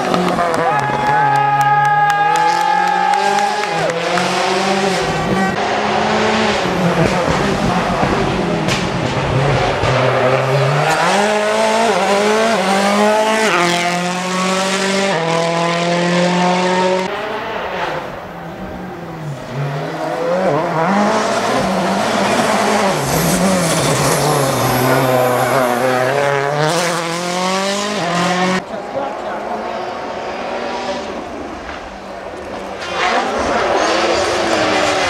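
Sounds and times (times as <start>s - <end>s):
rally car engines revving hard: 0.0s - 35.0s.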